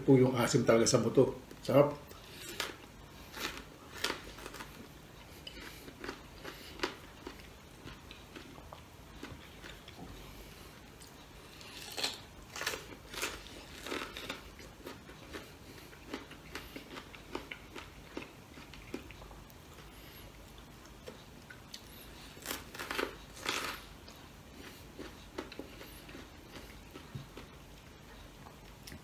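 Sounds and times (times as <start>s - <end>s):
wet chewing and smacking: 2.1s - 29.0s.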